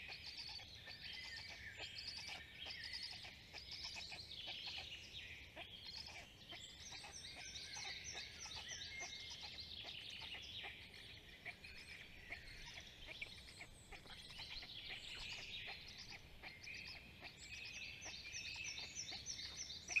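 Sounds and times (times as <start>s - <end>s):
songbirds singing: 0.0s - 20.0s.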